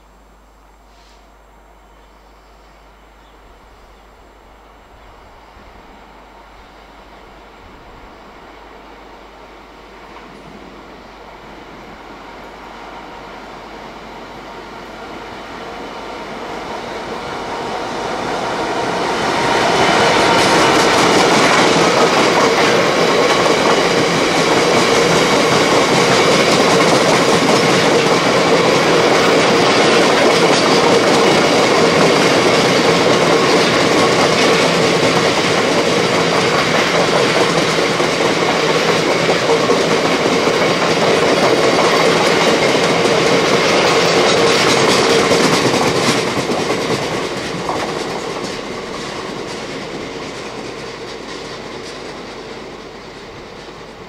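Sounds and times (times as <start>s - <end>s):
freight train passing: 0.7s - 54.0s.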